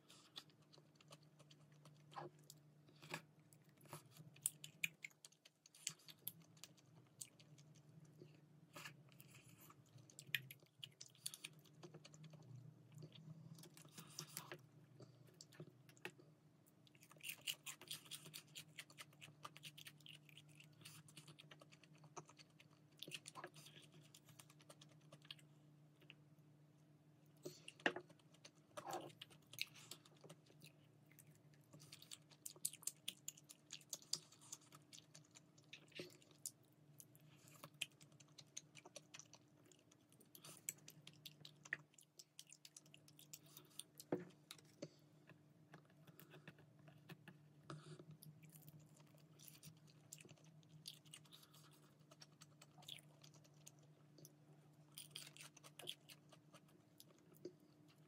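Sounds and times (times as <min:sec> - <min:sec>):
chewing crispy food: 0:00.0 - 0:26.4, 0:27.2 - 0:58.0
faint steady hum: 0:00.0 - 0:58.0.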